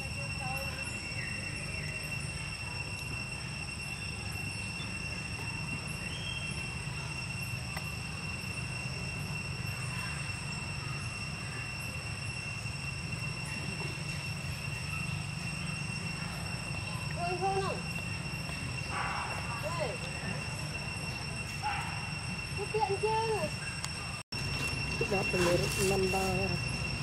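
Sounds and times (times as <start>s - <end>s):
high-pitched whine: 0.0s - 27.0s.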